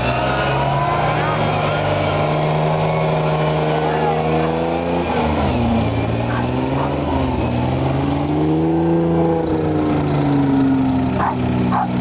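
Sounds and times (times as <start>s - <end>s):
engine revving: 0.0s - 12.0s
military vehicle engines running: 0.0s - 12.0s.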